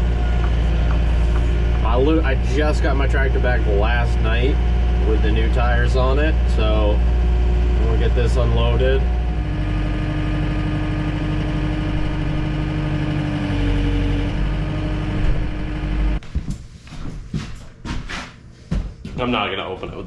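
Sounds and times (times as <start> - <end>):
tractor engine running: 0.0 - 16.2.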